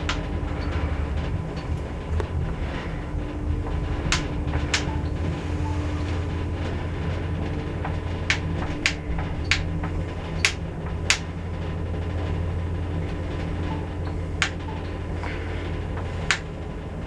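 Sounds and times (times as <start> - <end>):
lift machinery humming: 0.0 - 17.0.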